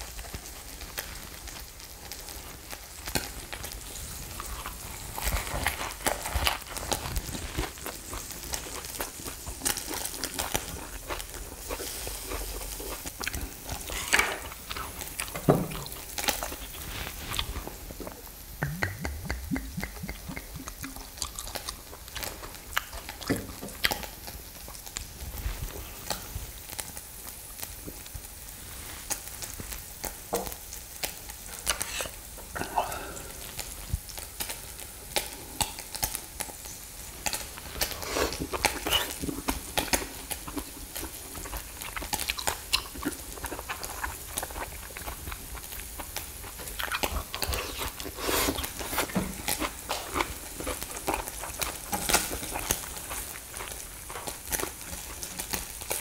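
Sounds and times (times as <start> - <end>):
meat sizzling on grill: 0.0 - 56.0
chewing: 3.0 - 26.8, 31.6 - 56.0.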